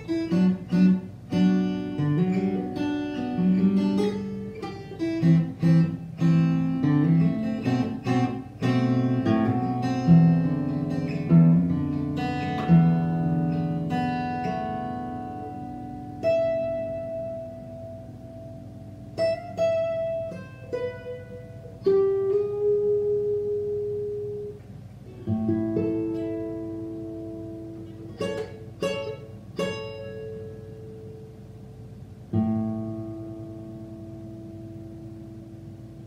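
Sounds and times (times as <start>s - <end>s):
fingerpicked acoustic guitar: 0.0s - 36.0s.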